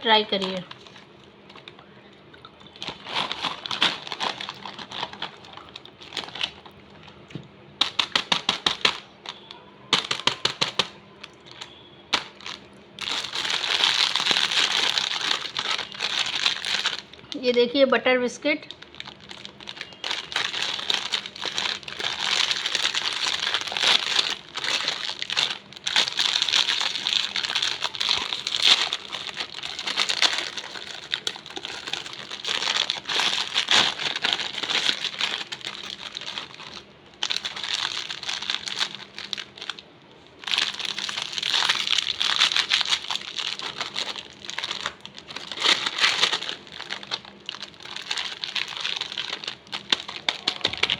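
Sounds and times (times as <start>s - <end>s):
plastic wrapper crinkling: 0.0s - 17.7s, 18.6s - 50.9s.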